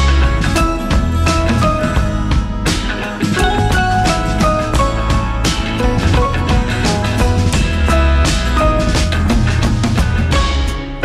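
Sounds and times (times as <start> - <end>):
held melodic notes: 0.0 - 11.0
steady drum beat: 0.0 - 11.0.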